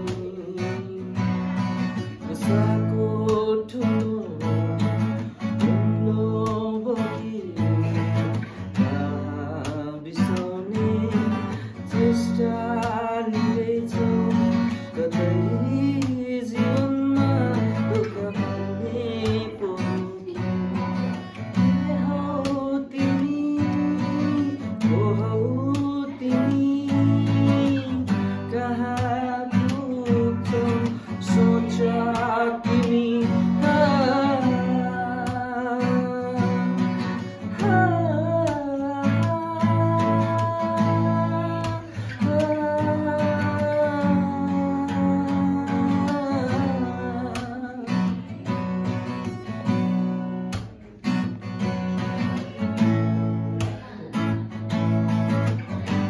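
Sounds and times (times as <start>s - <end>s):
man singing: 0.0s - 56.0s
strummed acoustic guitar: 0.0s - 56.0s.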